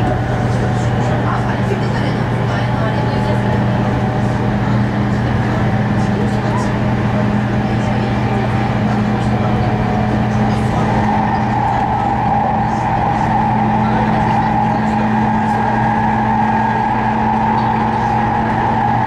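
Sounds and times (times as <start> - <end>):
train traction motor whine: 0.0 - 19.0
wheels rumbling on rail: 0.0 - 19.0.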